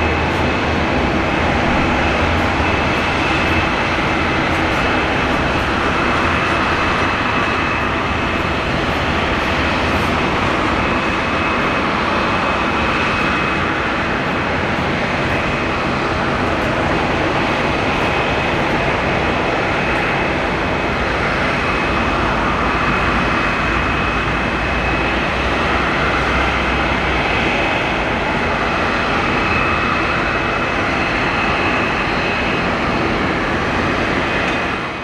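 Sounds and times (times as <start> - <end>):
high-pitched engine whine: 0.0 - 35.0
jet engines roaring: 0.0 - 35.0.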